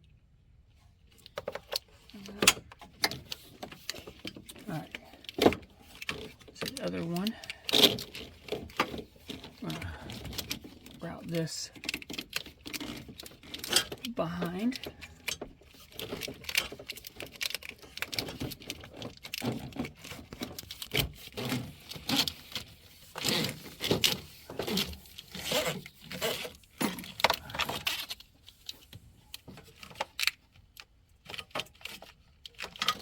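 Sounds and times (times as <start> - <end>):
wiring rustling: 1.1 - 33.0.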